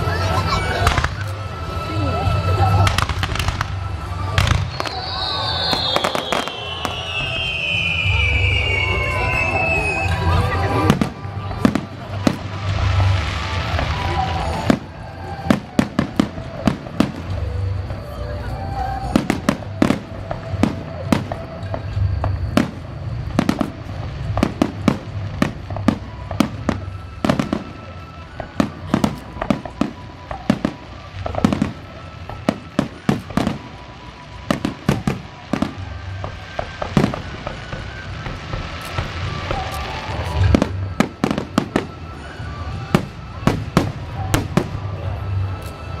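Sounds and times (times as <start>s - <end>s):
fireworks bursting with sharp bangs: 0.0s - 46.0s.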